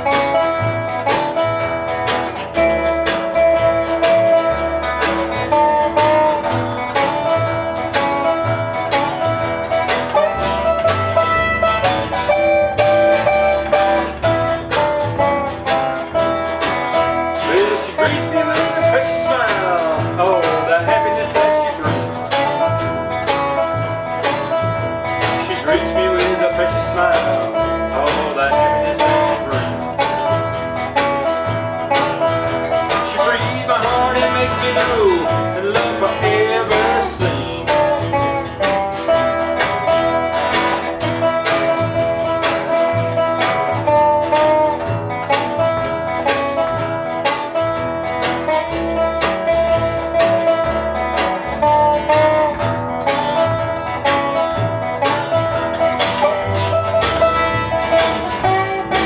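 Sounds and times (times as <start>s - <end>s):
acoustic guitar: 0.0s - 59.0s
fiddle: 0.0s - 59.0s
resonator guitar: 0.0s - 59.0s
upright bass: 0.0s - 59.0s.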